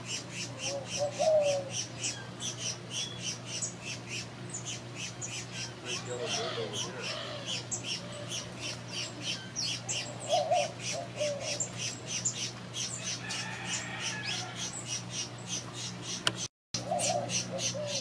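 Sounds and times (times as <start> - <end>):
birds chirping: 0.0 - 18.0
bird squawk: 0.1 - 18.0.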